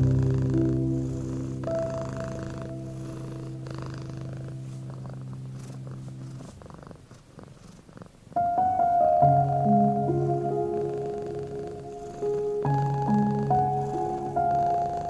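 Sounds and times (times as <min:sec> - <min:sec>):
soft slow music: 0:00.0 - 0:06.8, 0:08.3 - 0:15.0
cat purring: 0:00.0 - 0:15.0.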